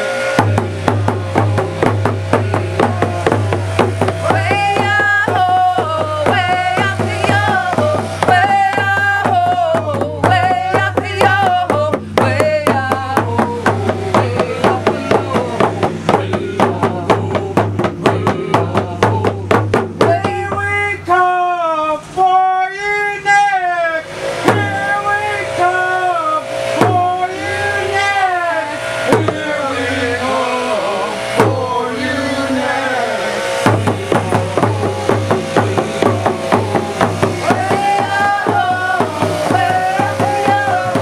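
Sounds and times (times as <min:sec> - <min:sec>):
hand frame drums beating: 0:00.0 - 0:20.9, 0:24.0 - 0:41.0
voices singing: 0:00.0 - 0:41.0.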